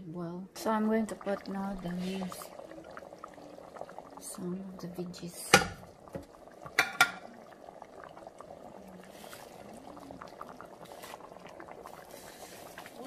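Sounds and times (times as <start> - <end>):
soup boiling with small pops: 0.5 - 13.0.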